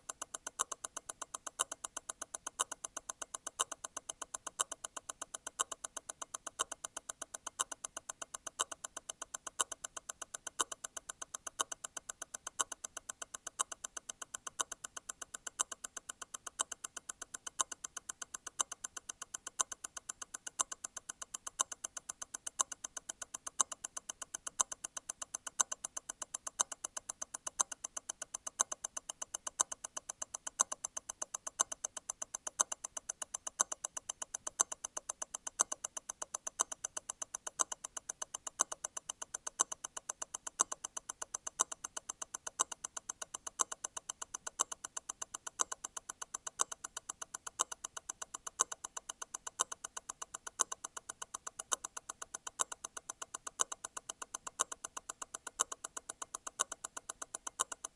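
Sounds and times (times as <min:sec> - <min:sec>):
louder watch tick: 0:00.0 - 0:57.9
watch movement ticking: 0:00.0 - 0:57.9.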